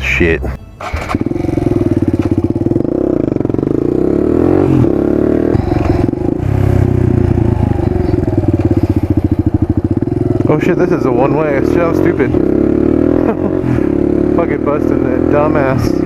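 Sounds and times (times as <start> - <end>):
motorcycle engine running: 0.8 - 16.0.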